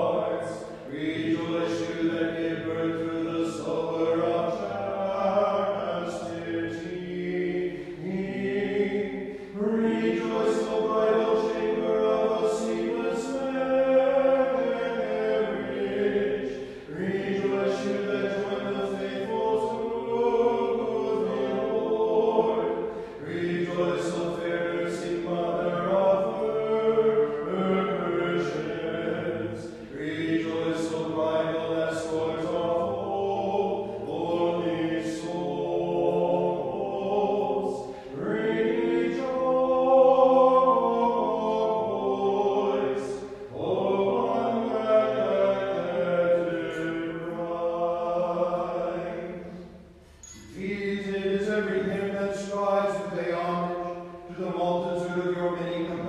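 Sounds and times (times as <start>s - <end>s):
unaccompanied liturgical chant: 0.0s - 56.0s.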